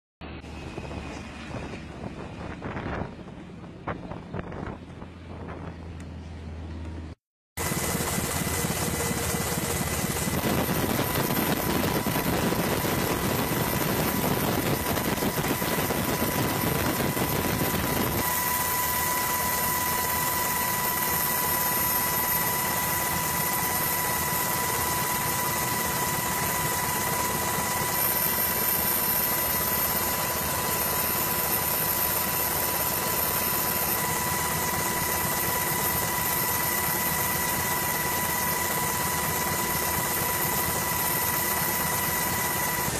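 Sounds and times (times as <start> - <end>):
helicopter rotor and engine noise: 0.2 - 42.9
steady high whine: 0.2 - 42.9.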